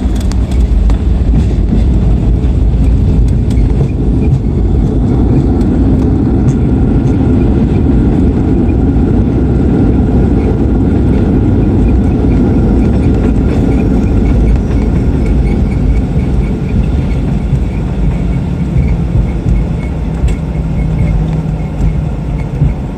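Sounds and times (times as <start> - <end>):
airliner cabin rumble: 0.0 - 22.9.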